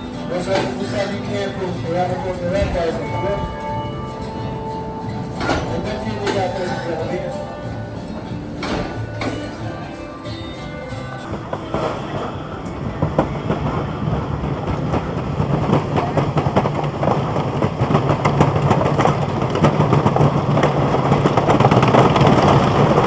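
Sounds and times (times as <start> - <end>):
roller coaster train clattering: 0.0 - 23.0.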